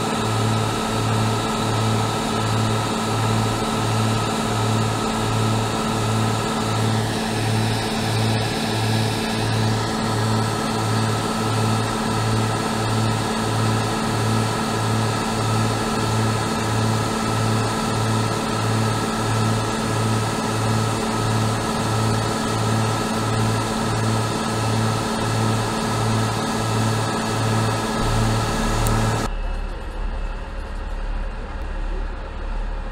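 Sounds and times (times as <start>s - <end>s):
diesel engines idling: 0.4s - 29.3s.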